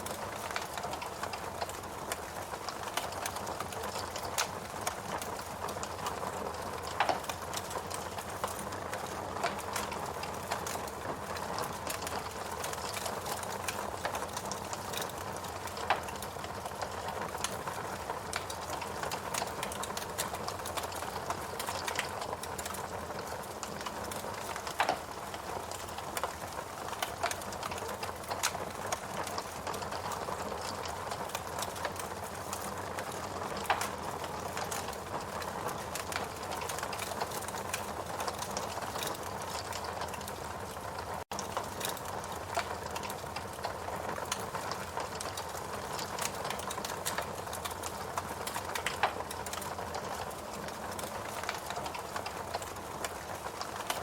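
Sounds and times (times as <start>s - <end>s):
logs crackling and popping: 0.0s - 54.0s.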